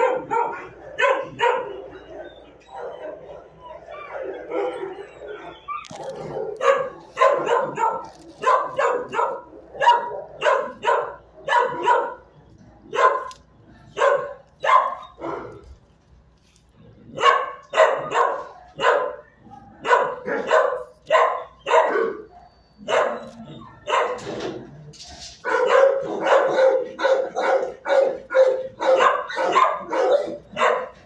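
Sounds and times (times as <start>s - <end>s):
dogs barking: 0.0s - 15.7s, 17.0s - 31.0s.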